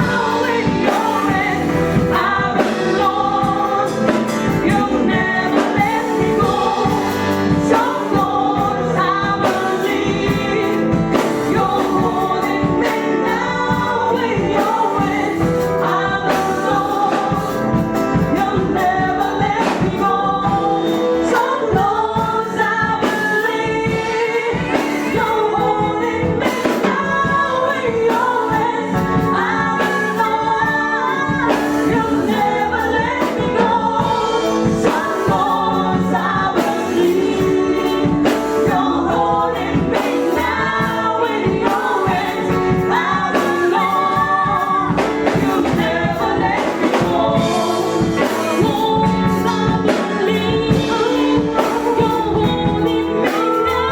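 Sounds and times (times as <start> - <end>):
band with steady drum beat: 0.0 - 53.9
gospel choir singing: 0.0 - 53.9.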